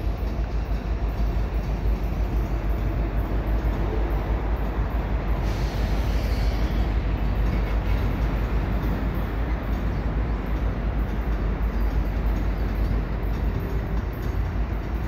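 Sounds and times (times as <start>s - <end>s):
freight train rumbling slowly: 0.0s - 15.0s.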